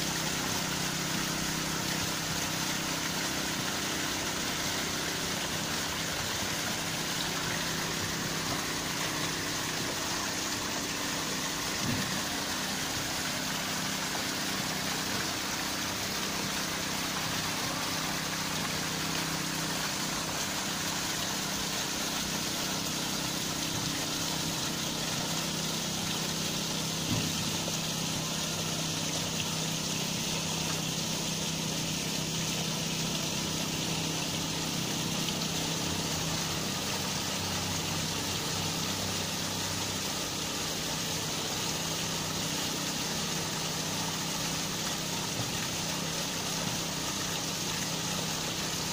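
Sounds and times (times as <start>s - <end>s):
fountain water splashing: 0.0s - 48.9s.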